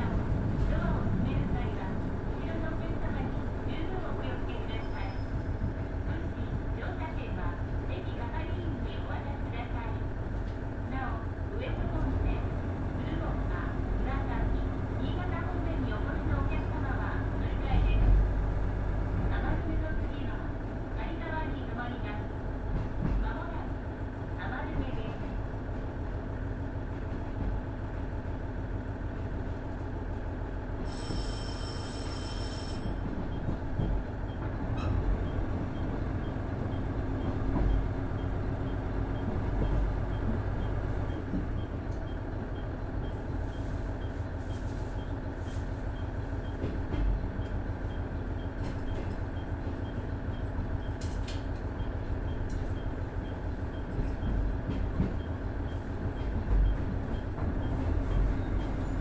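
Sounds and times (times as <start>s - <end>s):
diesel railcar engine droning: 0.0s - 59.0s
wheels rumbling on rail: 0.0s - 59.0s.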